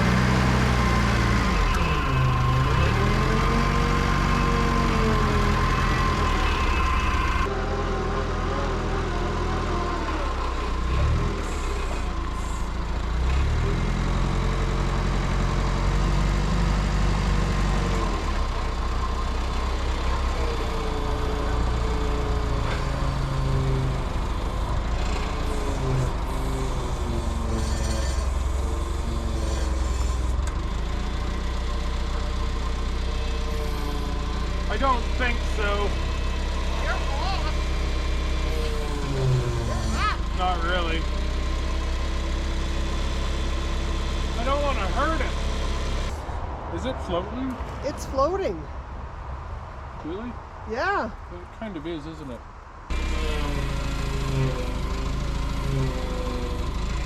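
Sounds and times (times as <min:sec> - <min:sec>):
heavy diesel engine running: 0:00.0 - 0:47.2, 0:52.9 - 0:57.0.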